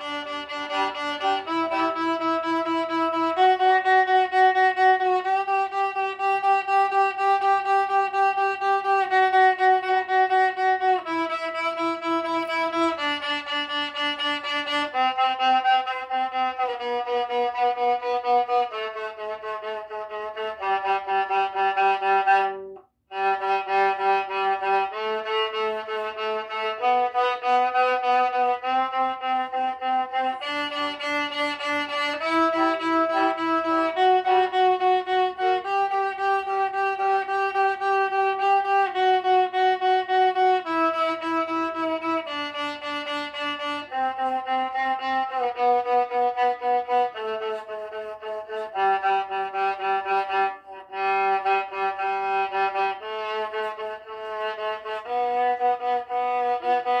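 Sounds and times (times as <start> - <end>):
violin playing a slow scale: 0.0 - 57.0.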